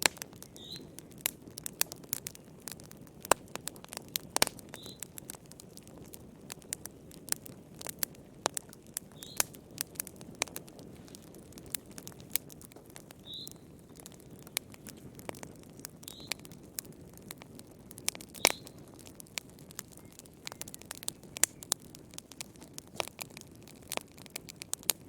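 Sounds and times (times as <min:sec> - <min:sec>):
low rush of flames: 0:00.0 - 0:25.0
wood fire crackling and popping: 0:00.0 - 0:25.0.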